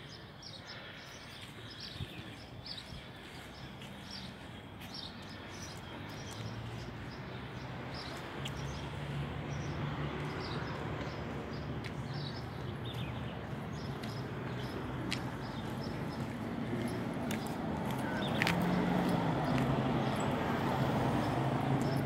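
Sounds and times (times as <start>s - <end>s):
small birds chirping: 0.0s - 20.4s
outdoor background noise: 0.0s - 22.0s.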